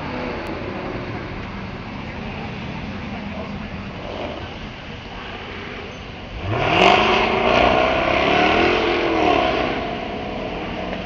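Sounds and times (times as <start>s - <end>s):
sports car engine accelerating: 0.0s - 11.0s.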